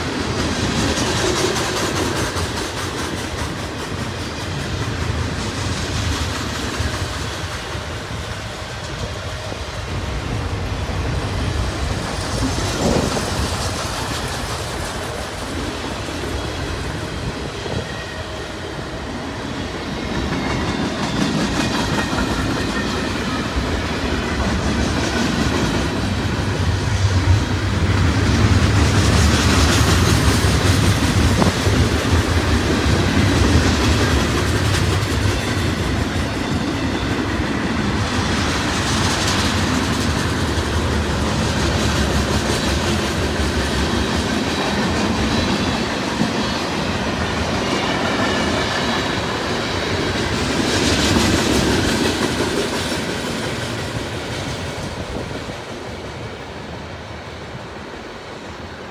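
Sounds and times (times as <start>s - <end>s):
wheels clickety-clack over rail joints: 0.0s - 58.4s
train wheels rumbling on rail: 0.0s - 58.9s.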